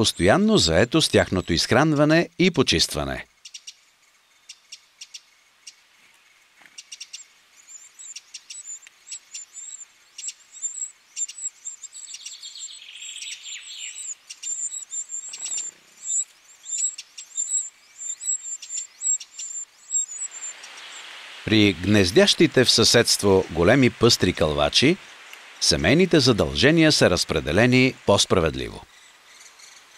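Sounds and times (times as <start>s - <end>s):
nestlings chirping: 0.0s - 3.8s, 6.7s - 29.9s.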